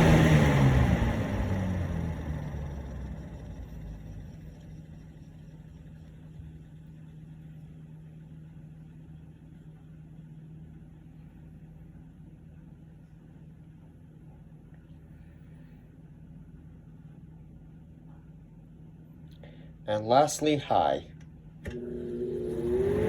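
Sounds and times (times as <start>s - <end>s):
box fan whirring down: 0.0s - 20.5s, 21.2s - 23.0s.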